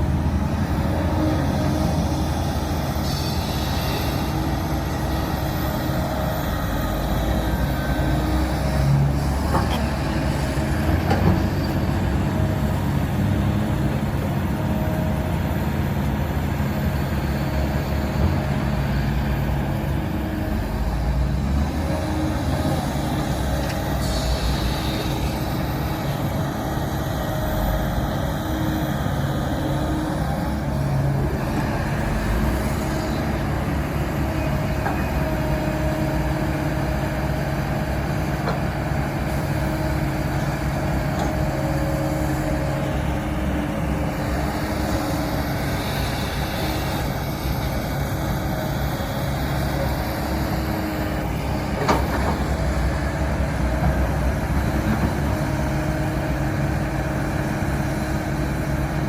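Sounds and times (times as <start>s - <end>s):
diesel engines of heavy machines: 0.0s - 59.0s.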